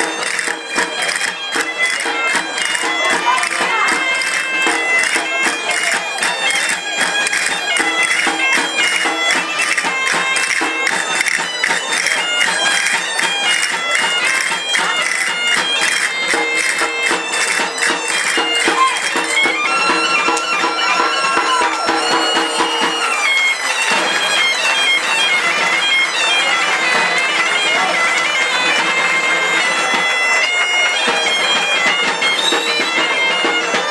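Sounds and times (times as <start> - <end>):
bagpipe dance tune with drone: 0.0 - 33.9
rhythmic clicking: 0.0 - 33.9.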